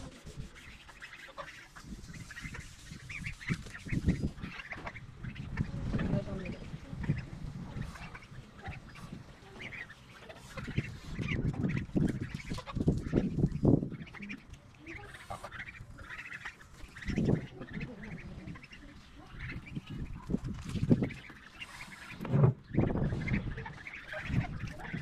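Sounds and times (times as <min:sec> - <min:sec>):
geese calling: 0:00.0 - 0:25.0.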